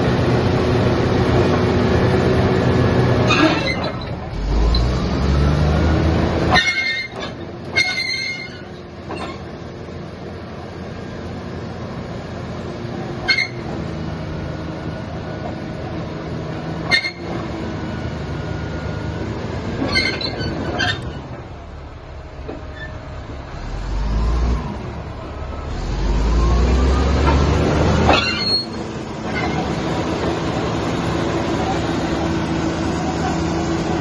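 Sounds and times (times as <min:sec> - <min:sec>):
bulldozer diesel engine droning: 0:00.0 - 0:34.0.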